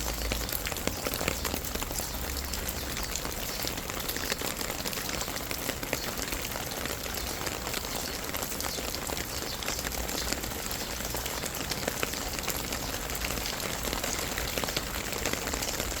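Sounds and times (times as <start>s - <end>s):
rain hiss: 0.0s - 16.0s
raindrops ticking: 0.0s - 16.0s.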